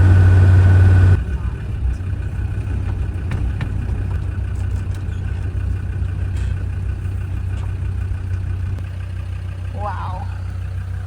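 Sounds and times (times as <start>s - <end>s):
engine and road rumble in cab: 0.0s - 11.0s.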